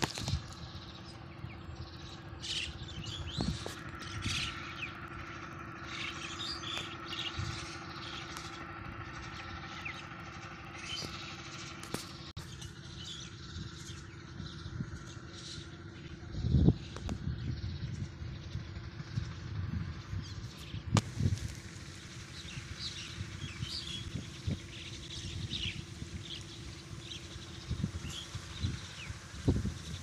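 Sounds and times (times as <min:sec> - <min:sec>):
flock of small birds chirping: 0:00.0 - 0:30.0
steady low hum: 0:00.0 - 0:30.0.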